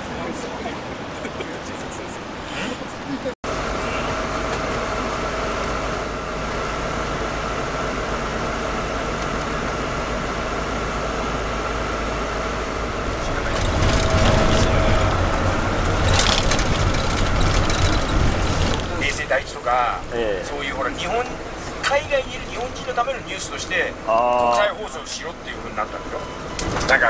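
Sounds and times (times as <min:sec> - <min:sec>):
van engines running: 0:00.0 - 0:27.0
deep engine rumble: 0:02.2 - 0:27.0.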